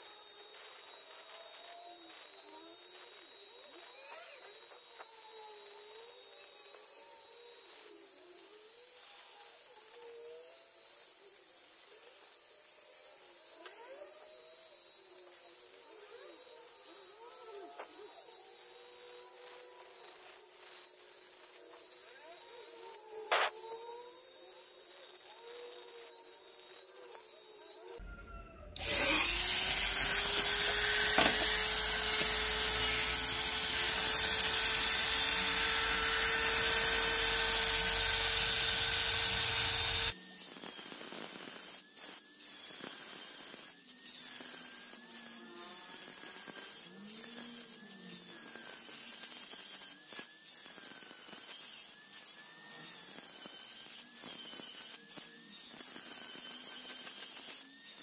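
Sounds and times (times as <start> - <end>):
rotary tool grinding shell: 0.0 - 28.0, 28.8 - 58.0.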